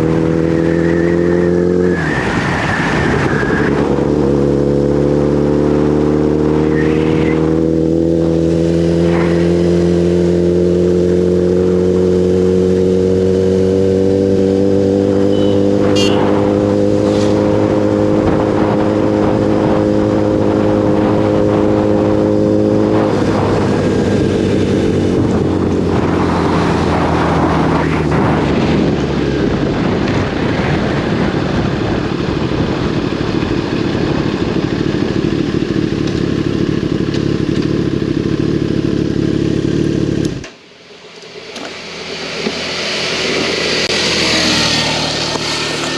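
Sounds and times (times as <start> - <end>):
motorcycle engine running: 3.8 - 45.9.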